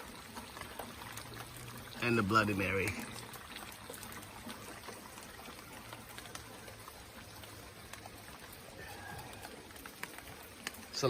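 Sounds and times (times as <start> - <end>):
light rain hissing: 0.0 - 11.0
raindrops ticking: 0.0 - 11.0.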